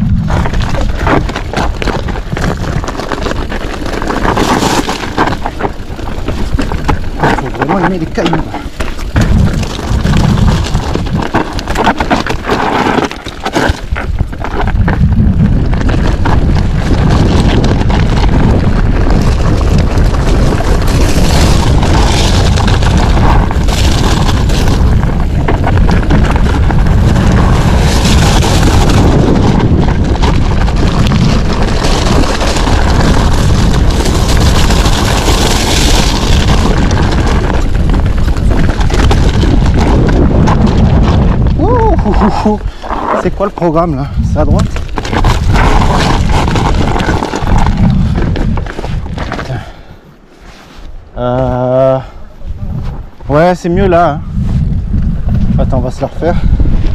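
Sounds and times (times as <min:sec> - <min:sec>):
bike rattling over rough trail: 0:00.0 - 0:50.1, 0:52.7 - 0:56.9
wind buffeting microphone: 0:00.0 - 0:50.1, 0:50.9 - 0:56.9.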